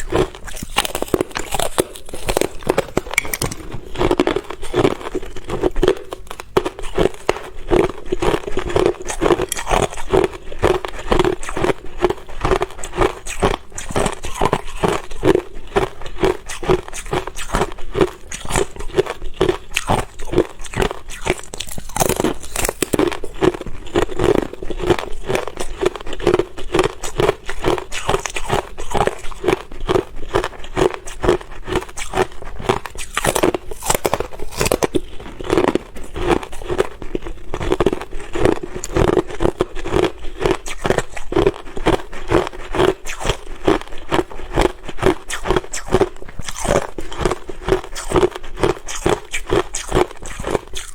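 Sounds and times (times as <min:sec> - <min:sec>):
ice crunching in mouth: 0:00.0 - 0:50.9.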